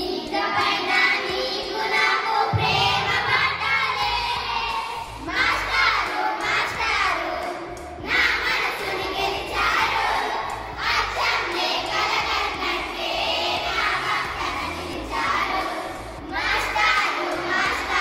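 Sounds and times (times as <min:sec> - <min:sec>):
girls' voices in chorus: 0:00.0 - 0:18.0.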